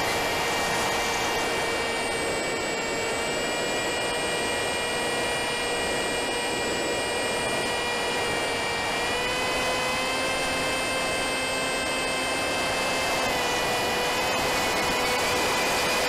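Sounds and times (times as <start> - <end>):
electric motor propeller whine: 0.0 - 16.0.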